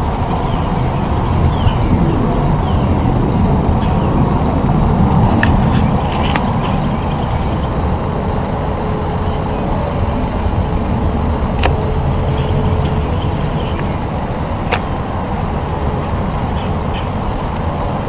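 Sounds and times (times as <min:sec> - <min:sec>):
faint steady hum: 0:00.0 - 0:18.0
low rumbling drone: 0:00.0 - 0:18.0.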